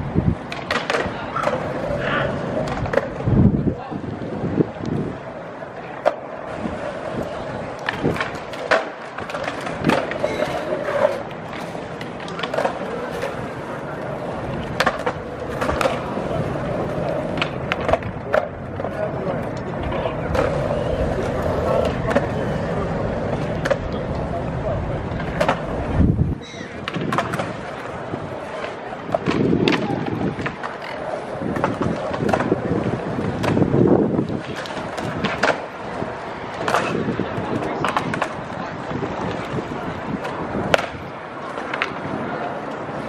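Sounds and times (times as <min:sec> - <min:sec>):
wind rumble on microphone: 0:00.0 - 0:05.4, 0:13.3 - 0:28.5, 0:29.1 - 0:43.0
urban background noise: 0:00.0 - 0:43.0.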